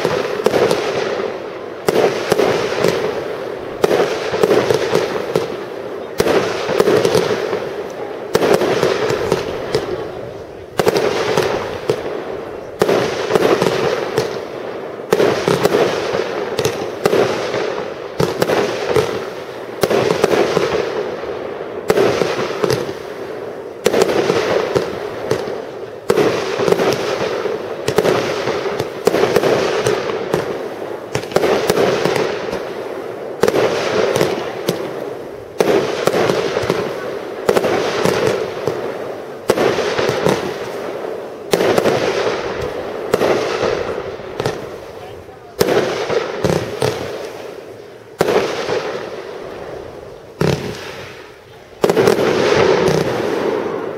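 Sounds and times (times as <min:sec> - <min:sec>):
fireworks bursting with crackling: 0:00.0 - 0:53.9.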